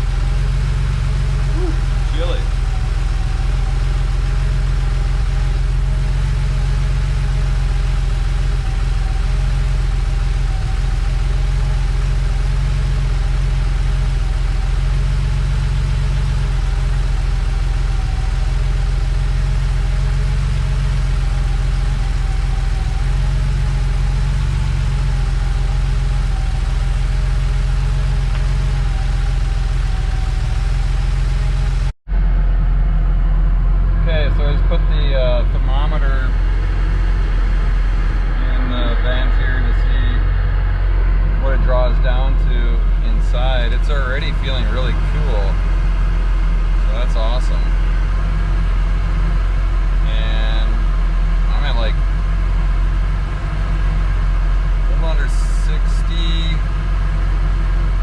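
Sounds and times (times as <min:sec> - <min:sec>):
air conditioning running: 0:00.0 - 0:58.0
car engine idling: 0:00.0 - 0:58.0.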